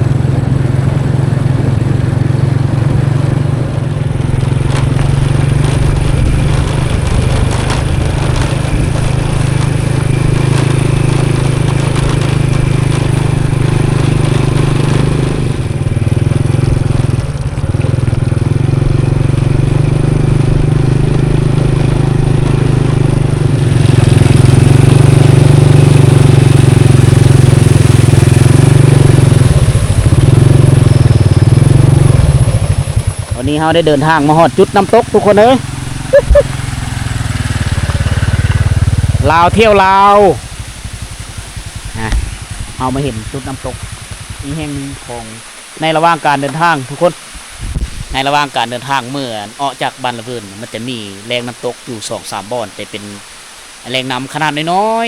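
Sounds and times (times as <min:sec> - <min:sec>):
small motorcycle engine running: 0:00.0 - 0:45.3.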